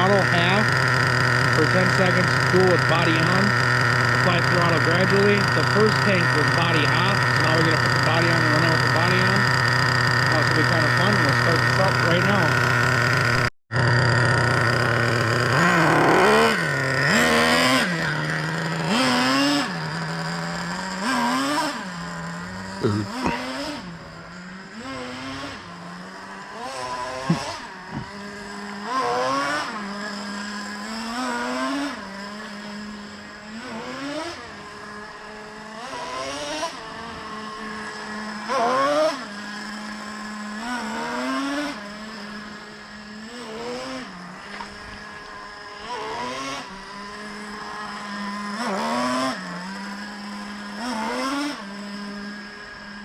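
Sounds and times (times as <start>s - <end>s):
small engine idling and revving: 0.0s - 53.0s.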